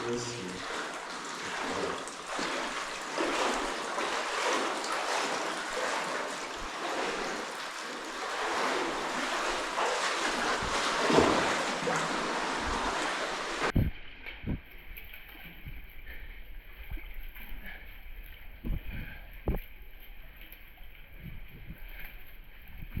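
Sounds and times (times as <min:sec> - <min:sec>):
stream water running: 0:00.0 - 0:23.0
water splashes: 0:00.0 - 0:23.0.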